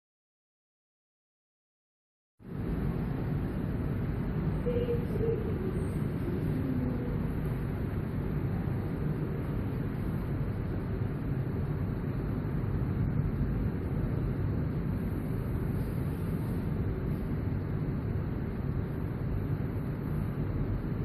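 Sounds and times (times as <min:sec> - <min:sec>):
low background rumble: 0:02.4 - 0:21.0.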